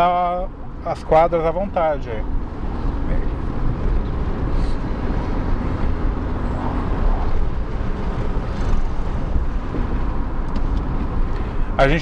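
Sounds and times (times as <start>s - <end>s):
car cabin rumble: 2.2s - 12.0s.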